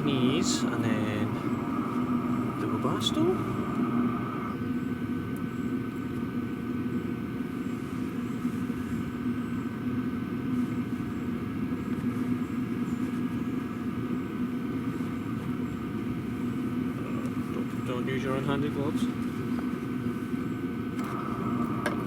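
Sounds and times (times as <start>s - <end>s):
diesel heater exhaust rumble: 0.0s - 22.0s.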